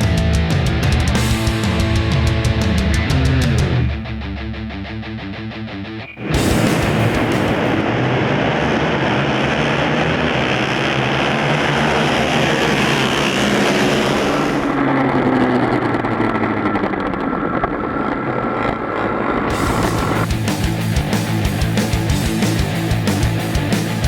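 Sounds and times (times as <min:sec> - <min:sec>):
racing motorcycles at speed: 0:00.0 - 0:04.0, 0:06.1 - 0:24.0.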